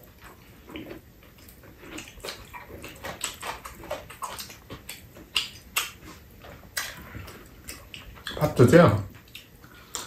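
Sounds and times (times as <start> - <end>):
wet chewing: 0.0 - 10.0
lip-smacking: 0.7 - 8.6, 9.2 - 10.0.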